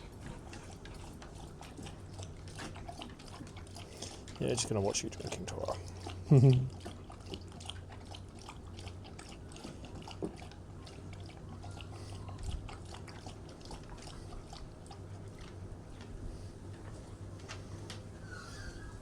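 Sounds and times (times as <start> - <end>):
dog lapping water: 0.0 - 16.6.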